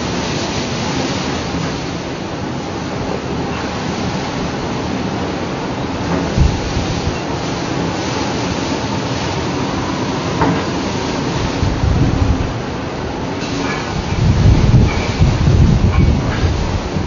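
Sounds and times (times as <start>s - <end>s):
heavy seas breaking: 0.0s - 17.0s
storm wind: 0.0s - 17.0s
wind gusts rumbling on microphone: 0.0s - 17.0s.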